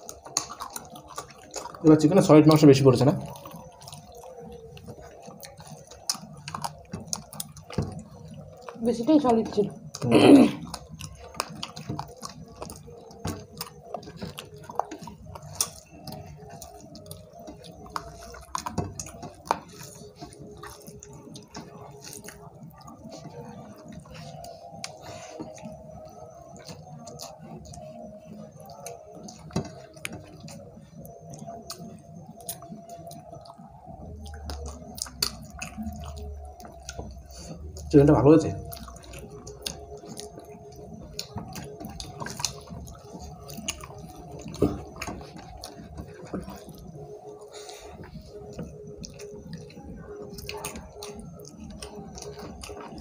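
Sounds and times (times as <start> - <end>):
chewing and wet mouth smacks: 0.0 - 53.0.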